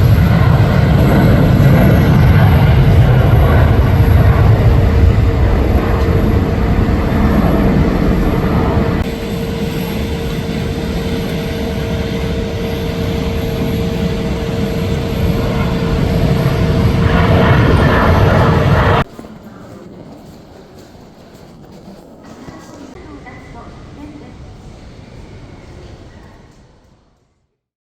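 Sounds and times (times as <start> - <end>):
jet engines rumbling and whining: 0.0 - 27.5.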